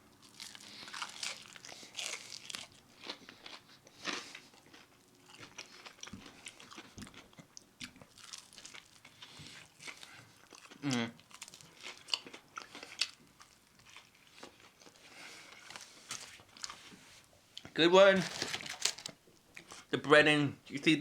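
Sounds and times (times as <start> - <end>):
chewing crispy fried chicken: 0.1 - 19.9.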